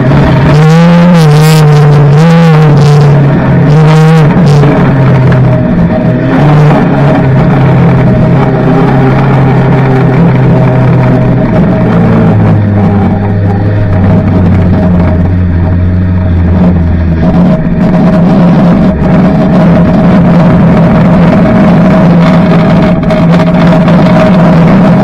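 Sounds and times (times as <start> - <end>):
racing car engine running hard: 0.0 - 25.0.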